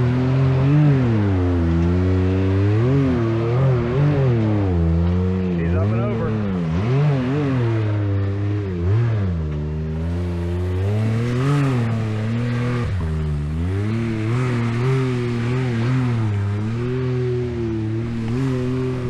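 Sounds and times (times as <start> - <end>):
turbocharged engine revving unevenly: 0.0 - 19.0.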